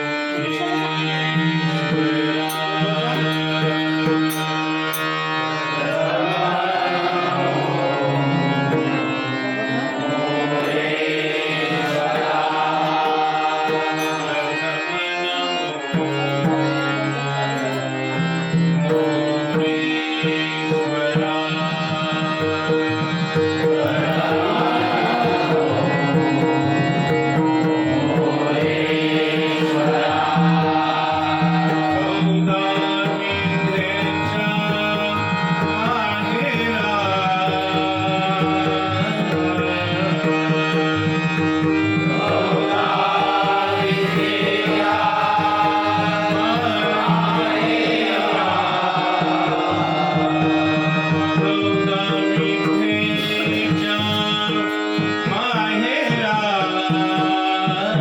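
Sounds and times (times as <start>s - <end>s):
harmonium melody: 0.0s - 58.0s.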